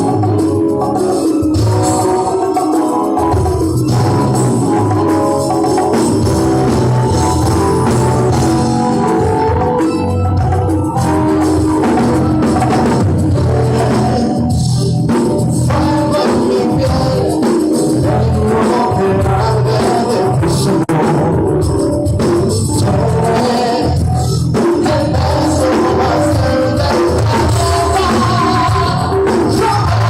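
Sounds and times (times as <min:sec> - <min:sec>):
live pop band playing: 0:00.0 - 0:30.0.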